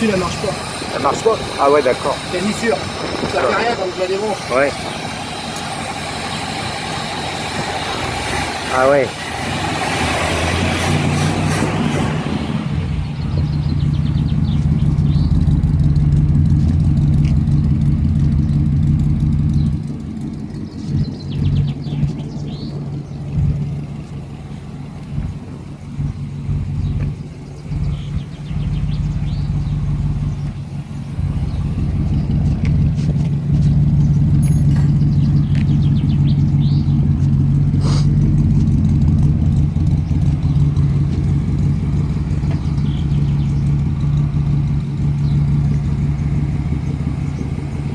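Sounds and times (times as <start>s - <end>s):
car engine idling through loud mufflers: 0.0s - 47.9s.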